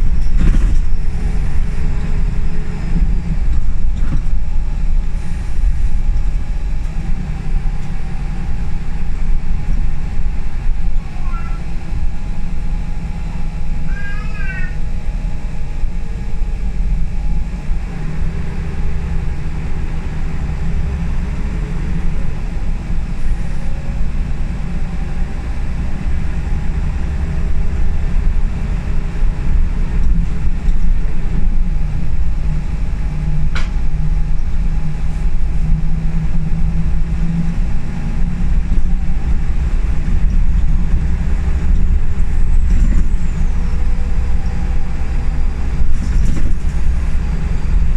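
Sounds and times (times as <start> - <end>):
bus diesel engine rumbling: 0.0 - 47.9
road noise: 0.0 - 47.9.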